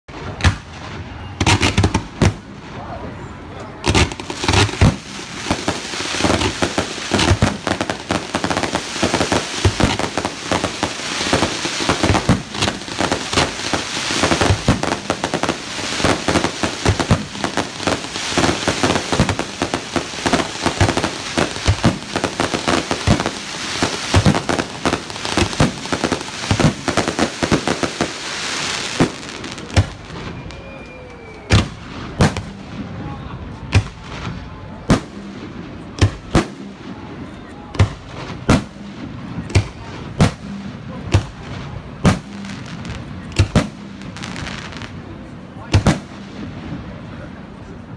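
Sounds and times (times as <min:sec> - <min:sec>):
fireworks bangs and pops: 0:00.1 - 0:02.8, 0:03.6 - 0:32.9, 0:33.5 - 0:47.9
loud firework booms: 0:00.1 - 0:03.0, 0:03.8 - 0:30.5, 0:31.5 - 0:37.1, 0:37.7 - 0:44.9, 0:45.7 - 0:47.0.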